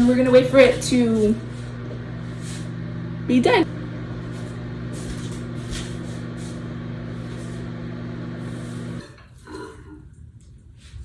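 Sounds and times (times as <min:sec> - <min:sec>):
microwave oven humming: 0:00.0 - 0:09.3.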